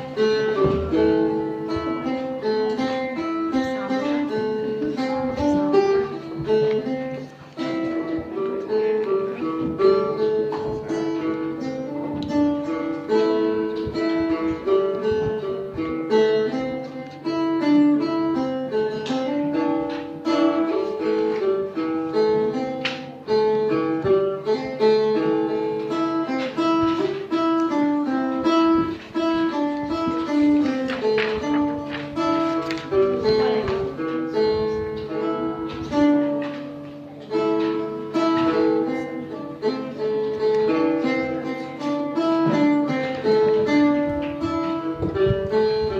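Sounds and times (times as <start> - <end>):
plucked lute melody: 0.0 - 45.9.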